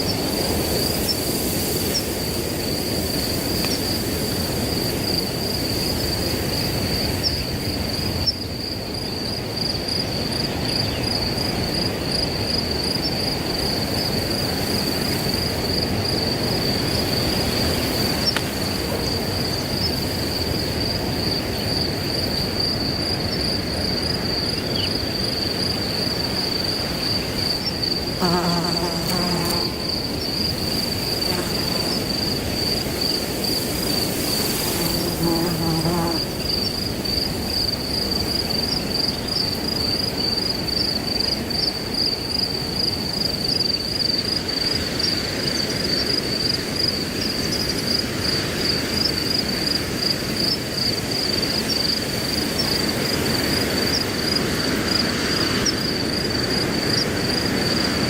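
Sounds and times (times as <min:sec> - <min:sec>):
crickets chirping: 0:00.0 - 0:58.0
wind rushing through grass: 0:00.0 - 0:58.0.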